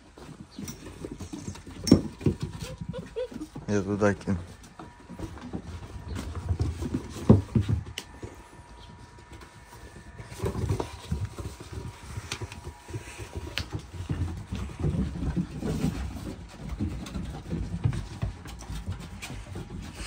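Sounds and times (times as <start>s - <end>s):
puppies scuffling paws pattering: 0.0s - 20.0s.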